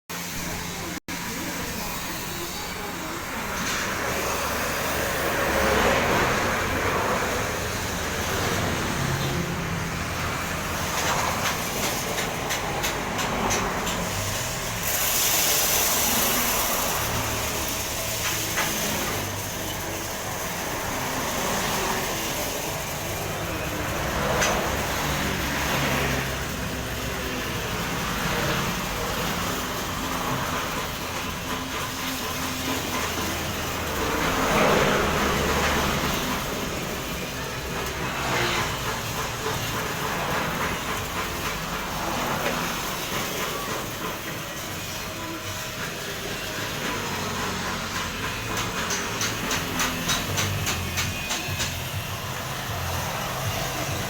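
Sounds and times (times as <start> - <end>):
coffee roasting machine whirring: 0.1 - 54.0.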